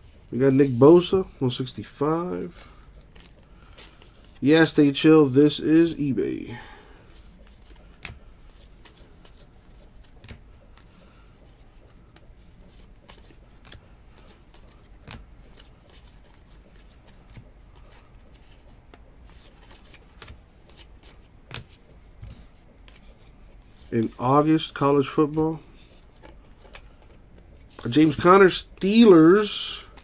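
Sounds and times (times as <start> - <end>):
trading cards clicking and slapping: 1.9 - 5.6, 7.1 - 25.4, 26.0 - 30.0.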